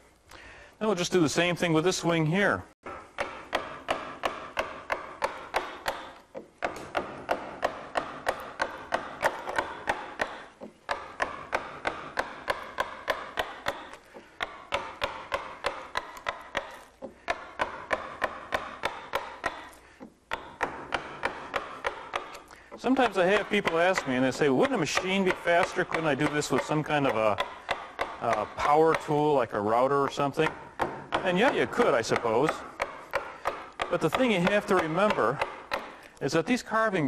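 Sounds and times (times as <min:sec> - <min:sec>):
gouge chipping wood: 0:02.8 - 0:37.0
mallet tapping a gouge: 0:02.8 - 0:37.0.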